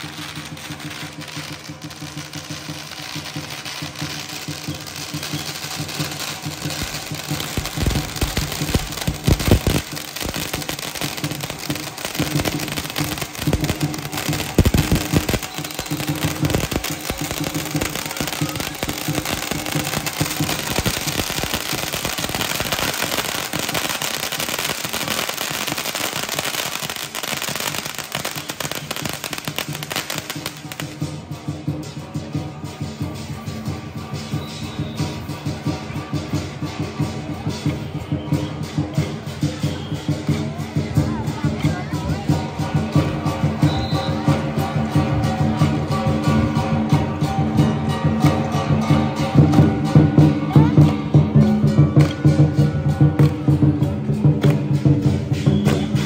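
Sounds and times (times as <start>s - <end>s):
fireworks crackling and hissing: 0.0s - 56.0s.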